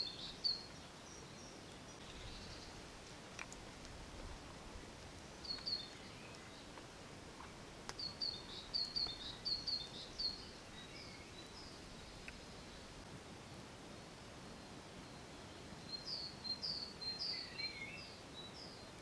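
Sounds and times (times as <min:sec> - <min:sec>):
outdoor background hiss: 0:00.0 - 0:19.0
songbird chirping: 0:00.0 - 0:19.0.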